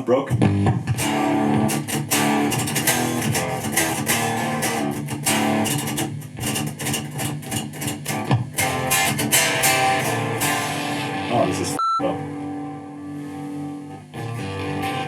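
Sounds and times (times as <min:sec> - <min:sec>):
electric guitar riffing: 0:00.3 - 0:15.0.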